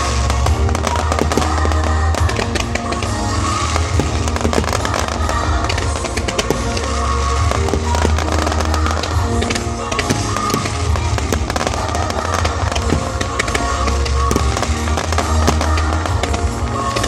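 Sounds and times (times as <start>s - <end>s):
fireworks bangs and crackles: 0.0s - 17.0s
loud music with heavy bass: 0.0s - 17.0s.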